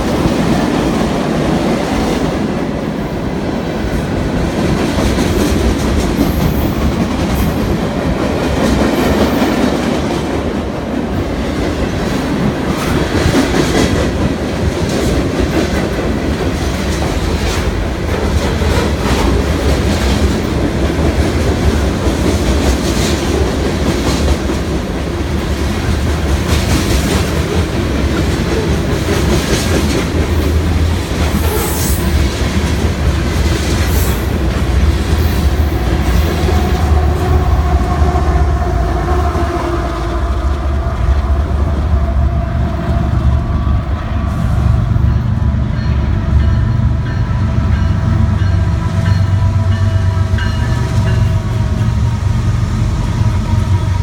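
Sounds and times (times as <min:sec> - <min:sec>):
diesel locomotives rumbling and whining: 0:00.0 - 0:54.0.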